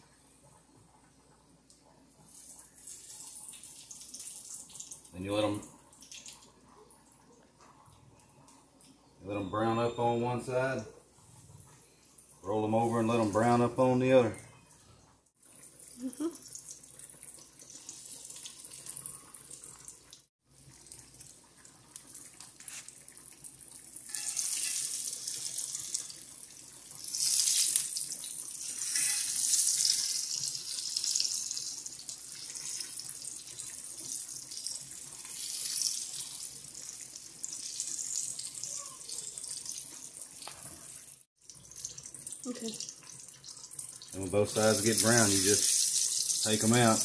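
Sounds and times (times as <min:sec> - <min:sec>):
meat deep-frying in oil: 0:01.7 - 0:09.0, 0:15.3 - 0:47.0.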